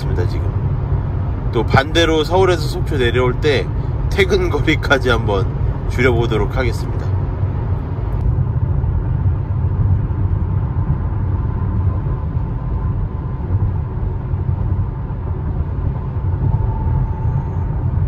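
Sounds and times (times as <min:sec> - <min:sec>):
car interior road rumble: 0:00.0 - 0:18.0
faint steady whine: 0:00.0 - 0:18.0.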